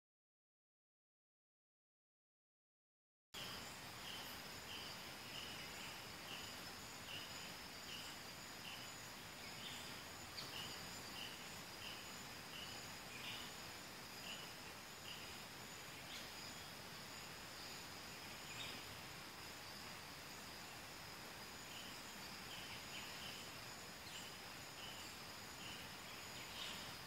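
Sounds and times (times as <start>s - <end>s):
high-pitched insect trills: 3.4s - 27.0s
light hiss: 3.4s - 27.0s
short insect chirp: 3.4s - 27.0s.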